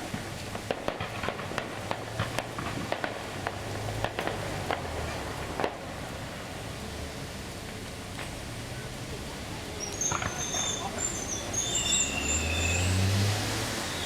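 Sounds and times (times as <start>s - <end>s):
fireworks popping: 0.0s - 12.5s, 13.6s - 14.0s
steady hiss: 0.0s - 14.0s.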